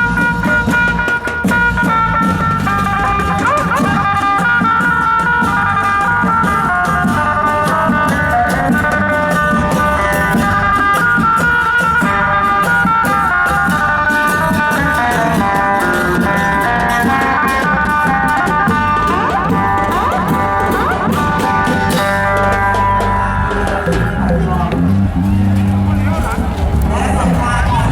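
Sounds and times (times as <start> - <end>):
folk drums and percussion: 0.0 - 27.9
reedy melody: 0.0 - 27.9.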